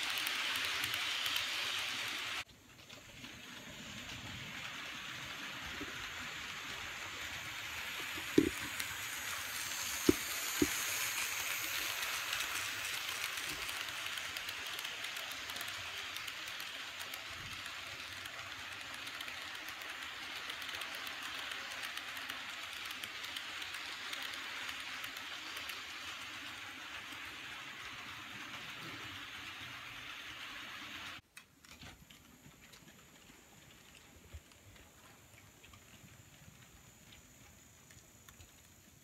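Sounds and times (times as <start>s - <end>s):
model train cars whirring: 0.0s - 39.0s.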